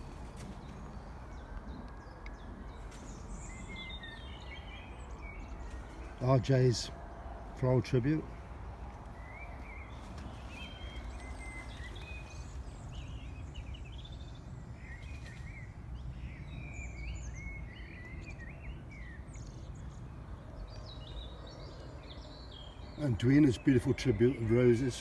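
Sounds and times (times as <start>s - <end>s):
songbirds chirping and warbling: 0.0s - 25.0s.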